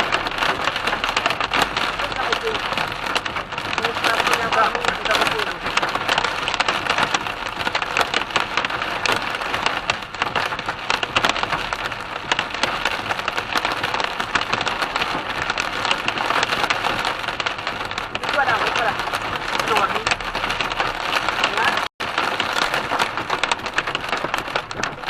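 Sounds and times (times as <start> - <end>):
heavy rain on car roof: 0.0 - 25.0.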